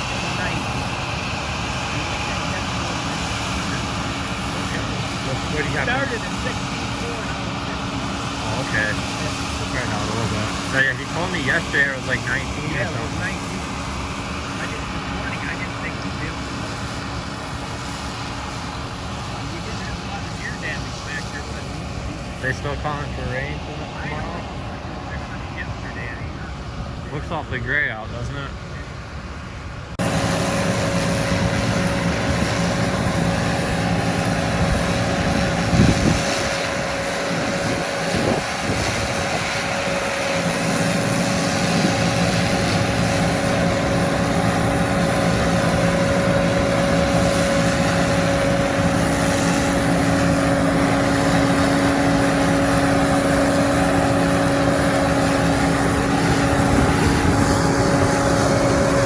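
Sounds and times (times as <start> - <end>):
machinery humming and whining: 0.0 - 59.0.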